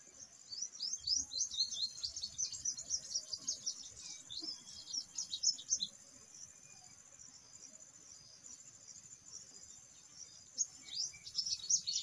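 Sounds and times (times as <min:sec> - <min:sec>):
crickets trilling: 0:00.1 - 0:12.0.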